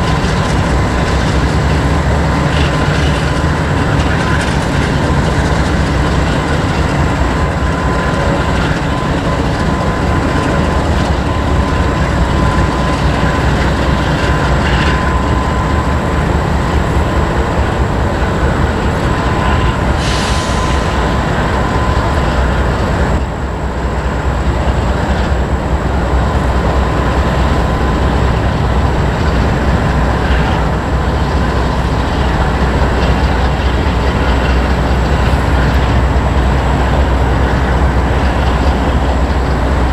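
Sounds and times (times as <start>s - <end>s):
clickety-clack of rails: 0.0s - 39.9s
train wheels rumbling on rails: 0.0s - 39.9s.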